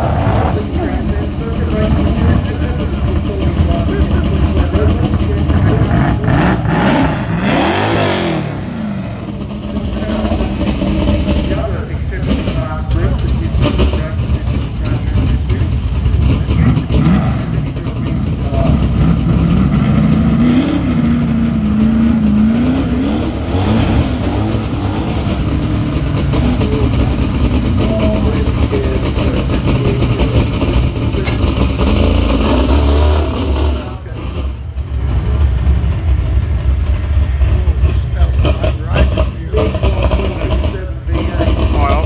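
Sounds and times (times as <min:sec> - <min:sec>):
car engine revving and accelerating: 0:00.0 - 0:42.0
deep car engine rumble: 0:00.0 - 0:42.0.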